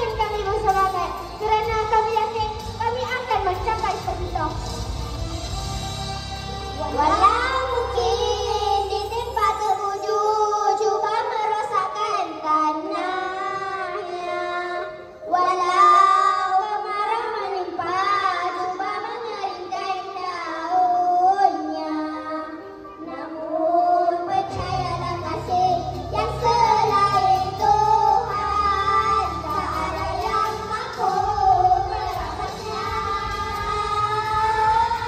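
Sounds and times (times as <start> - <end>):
backing music: 0.0 - 35.0
children singing: 6.7 - 35.0.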